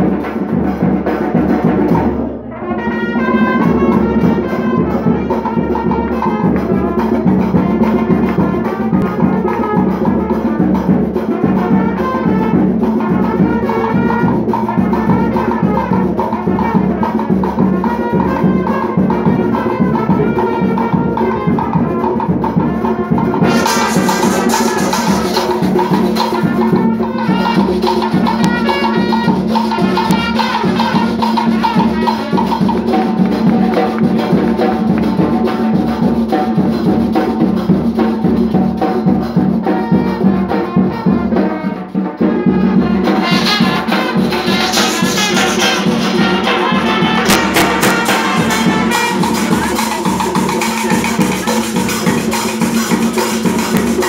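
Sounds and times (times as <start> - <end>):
brass horns playing: 0.0 - 37.3, 38.0 - 54.0
cymbals: 0.0 - 54.0
drum beat: 0.0 - 54.0.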